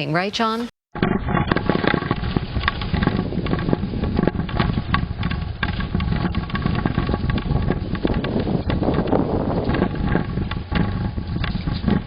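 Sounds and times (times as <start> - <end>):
low rumble: 1.0 - 12.0
rapid rattling and clicking: 1.0 - 12.0.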